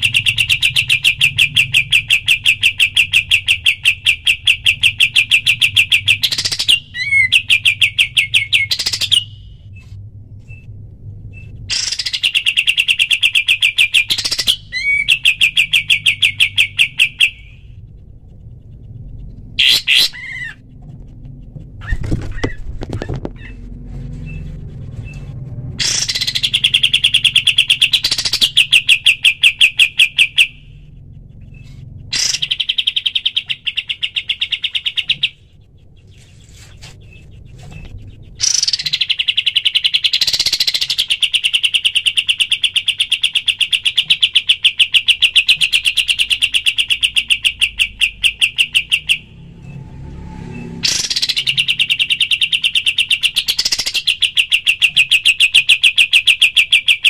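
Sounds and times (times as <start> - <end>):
bird singing rapid repeated notes: 0.0 - 49.8, 50.4 - 57.0.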